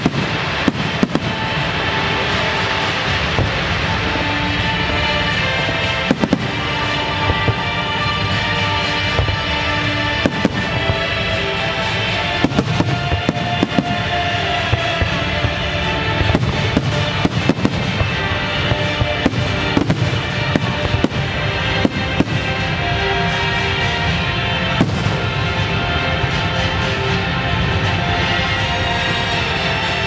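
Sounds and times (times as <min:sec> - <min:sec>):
fireworks bangs and crackles: 0:00.0 - 0:30.0
music playing: 0:00.0 - 0:30.0.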